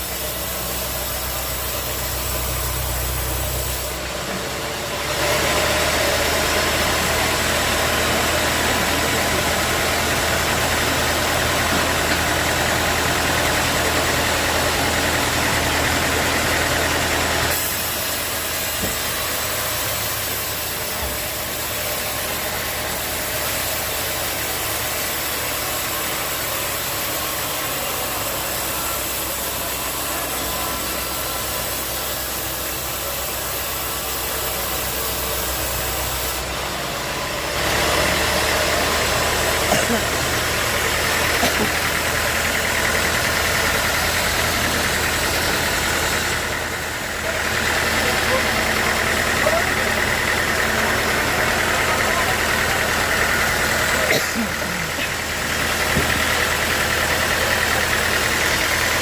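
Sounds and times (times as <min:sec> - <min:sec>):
saw cutting through log: 0:00.0 - 0:59.0
sawmill engine running: 0:00.0 - 0:59.0.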